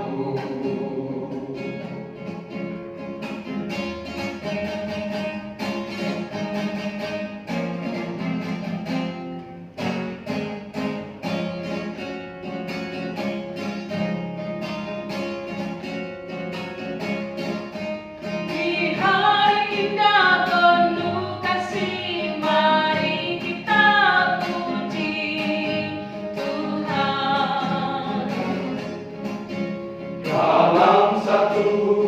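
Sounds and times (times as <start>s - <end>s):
strummed guitar with sustained backing: 0.0s - 32.0s.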